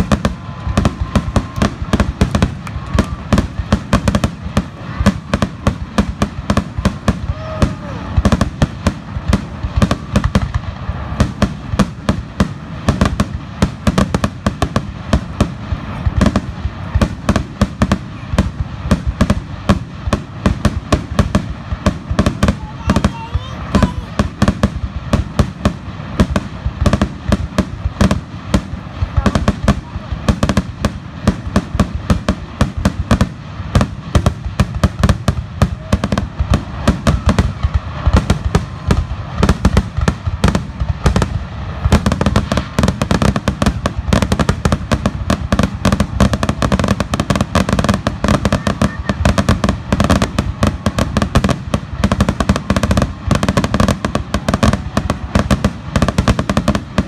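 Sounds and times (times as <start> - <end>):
continuous low rumble: 0.0 - 57.0
firework shells bursting: 0.0 - 57.0.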